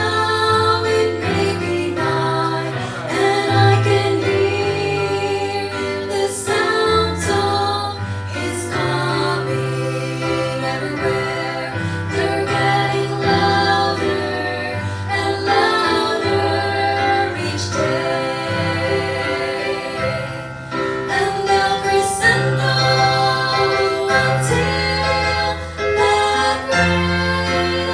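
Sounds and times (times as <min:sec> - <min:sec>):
vocal trio singing gospel: 0:00.0 - 0:27.9.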